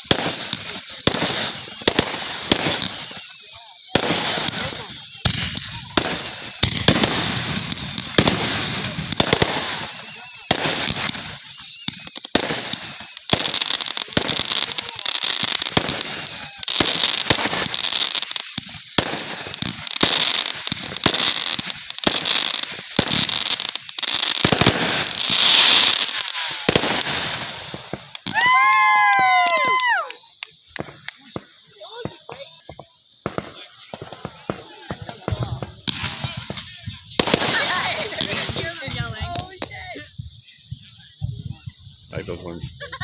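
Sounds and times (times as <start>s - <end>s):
fireworks popping and crackling: 0.0s - 43.0s
high firework whistle: 0.0s - 43.0s
loud firework hiss: 0.0s - 43.0s.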